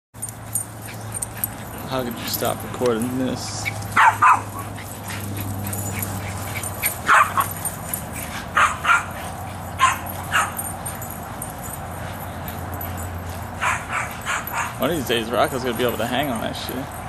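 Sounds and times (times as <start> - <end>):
dogs barking: 0.2 - 17.0.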